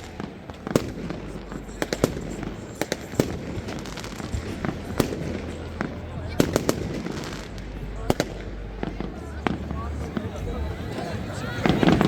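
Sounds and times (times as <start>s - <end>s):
distant firework bursts: 0.0s - 12.0s
firecrackers banging: 0.0s - 12.0s.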